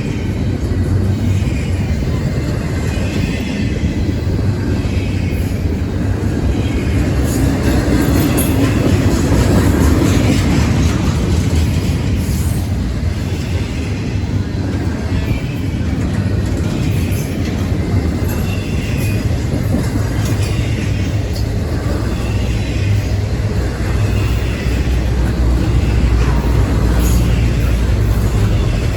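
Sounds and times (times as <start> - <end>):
train rumbling past: 0.0 - 28.9
wheels clickety-clack on rail joints: 0.0 - 28.9.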